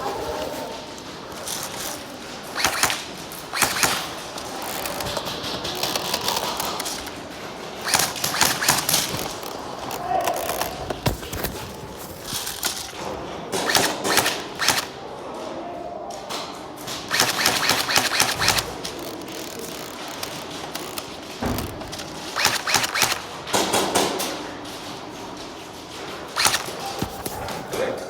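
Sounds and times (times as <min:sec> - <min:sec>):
airsoft guns firing: 0:01.2 - 0:15.0, 0:17.0 - 0:24.3, 0:26.3 - 0:28.0.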